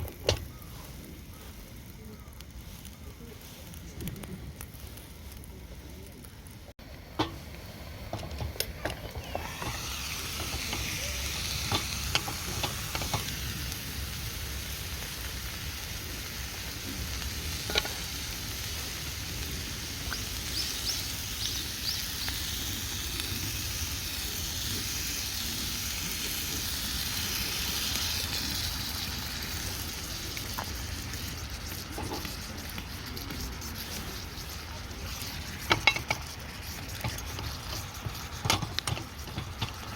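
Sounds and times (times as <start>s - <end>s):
food sizzling in a pan: 6.9s - 39.9s.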